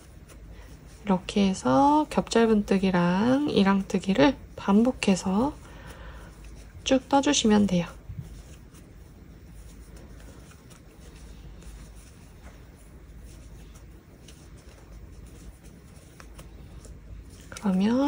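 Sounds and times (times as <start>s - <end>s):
crochet hook rustling yarn: 0.0s - 5.6s, 6.3s - 18.0s.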